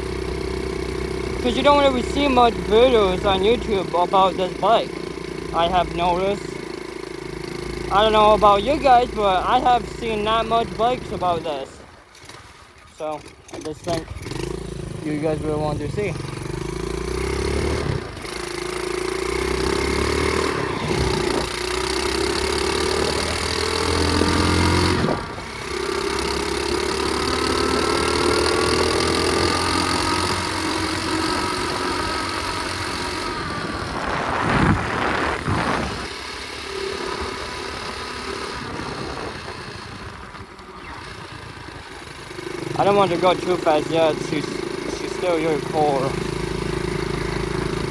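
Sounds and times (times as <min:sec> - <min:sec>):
pit bike engine shifting gears: 0:00.0 - 0:47.9.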